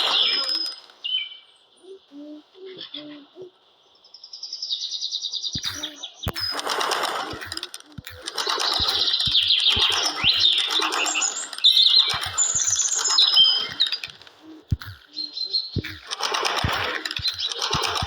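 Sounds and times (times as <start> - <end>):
small birds chirping and twittering: 0.0 - 18.0.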